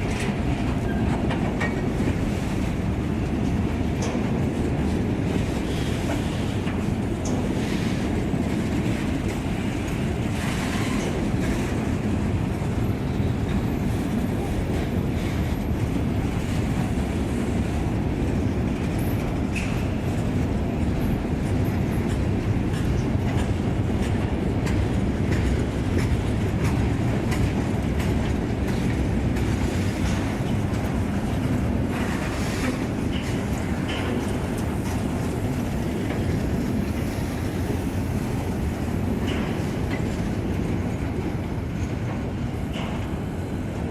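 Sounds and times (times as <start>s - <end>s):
train wheels rumbling over rails: 0.0s - 43.9s.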